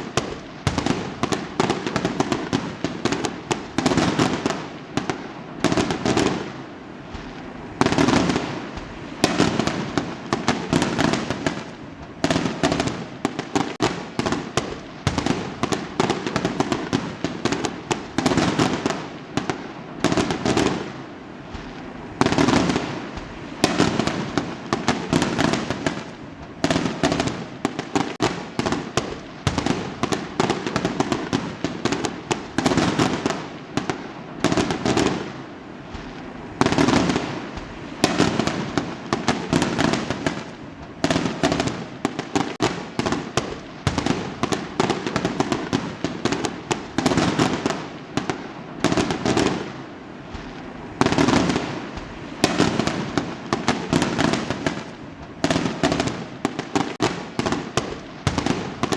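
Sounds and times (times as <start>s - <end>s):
fireworks crackling and banging: 0.0s - 58.9s.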